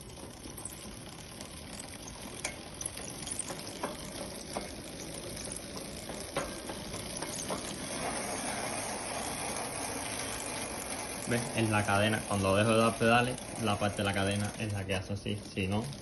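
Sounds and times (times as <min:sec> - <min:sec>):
bicycle chain clicking: 0:00.0 - 0:16.0
spinning bicycle wheel and chain hiss: 0:00.0 - 0:16.0.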